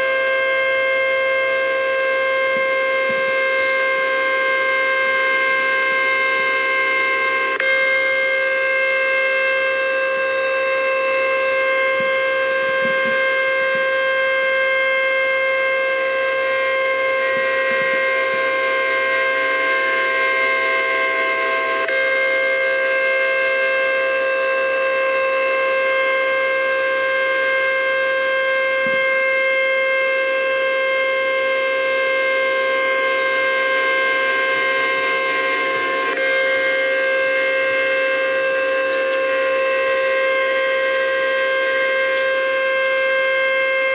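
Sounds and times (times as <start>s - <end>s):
warning siren steady tone: 0.0s - 43.9s.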